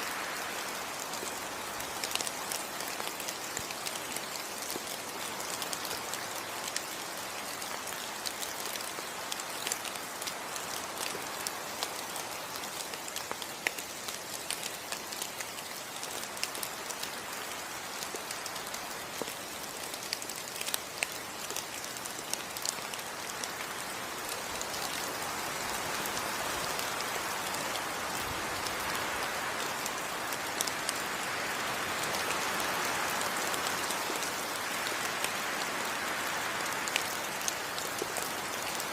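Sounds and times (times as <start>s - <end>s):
steady rain: 0.0s - 38.9s
raindrops ticking: 0.9s - 31.0s, 36.7s - 38.9s.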